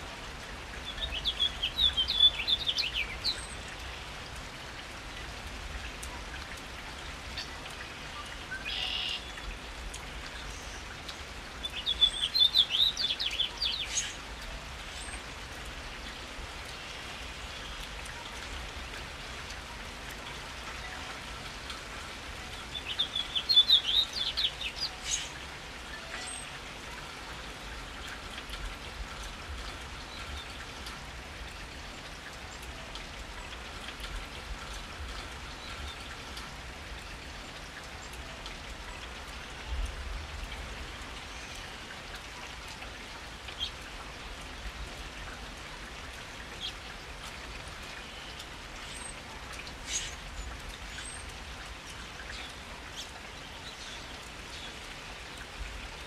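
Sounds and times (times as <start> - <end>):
rain on pavement and foliage: 0.0 - 56.0
water drip: 0.0 - 56.0.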